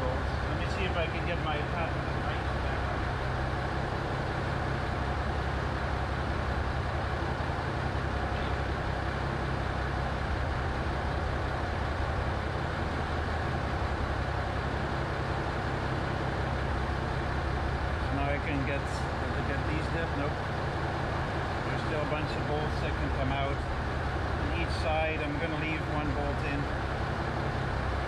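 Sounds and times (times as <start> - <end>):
low machine drone: 0.0 - 28.0.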